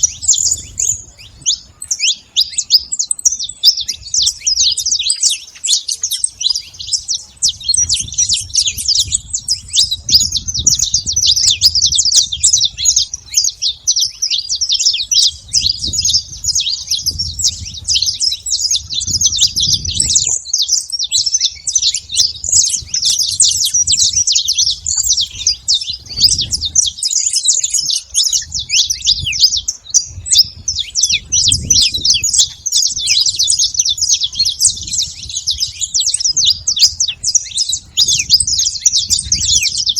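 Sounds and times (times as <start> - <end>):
finch singing rapid chirps: 0.0 - 39.9.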